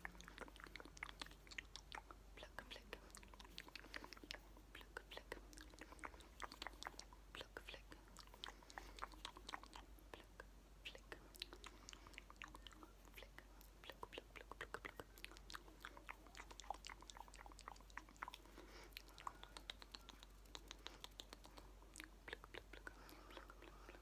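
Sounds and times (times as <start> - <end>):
wet lip and tongue clicks: 0.0 - 24.0.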